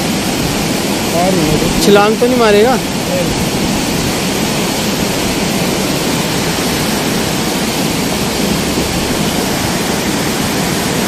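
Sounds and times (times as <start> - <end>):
river rushing roar: 0.0 - 11.0.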